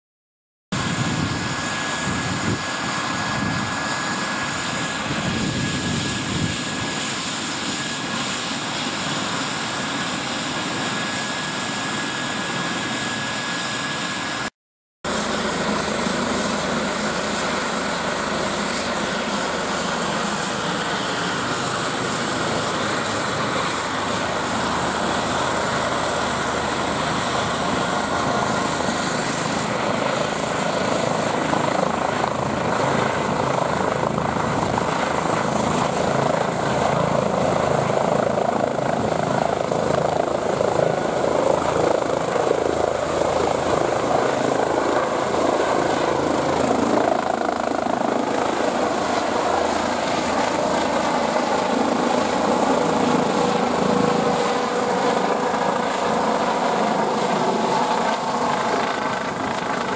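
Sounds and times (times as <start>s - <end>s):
helicopter rotor noise: 0.8s - 59.9s
helicopter turbine whine: 0.8s - 59.9s.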